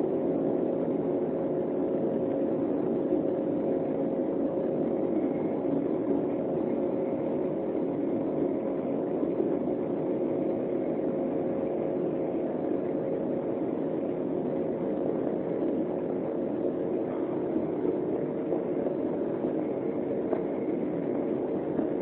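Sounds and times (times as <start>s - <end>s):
jet engines in cabin: 0.0s - 22.0s.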